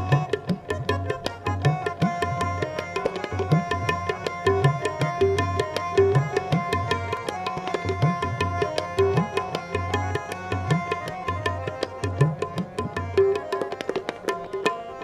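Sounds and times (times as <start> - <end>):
sustained harmonium notes: 0.0 - 15.0
tabla playing quick rhythm: 0.0 - 15.0.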